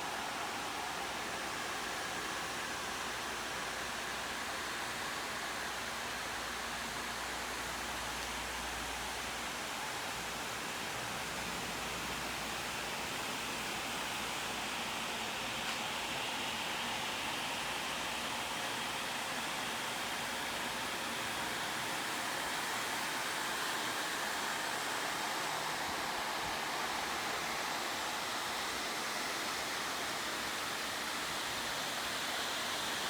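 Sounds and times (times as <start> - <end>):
cooling fans whooshing hiss: 0.0 - 33.0.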